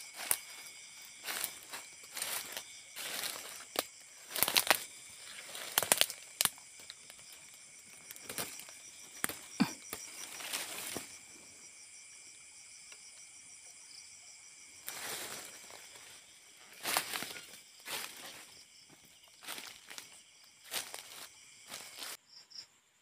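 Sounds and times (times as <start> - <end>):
twigs and leaves crackling: 0.0 - 11.3, 14.8 - 22.2
insects chirring: 0.0 - 23.0.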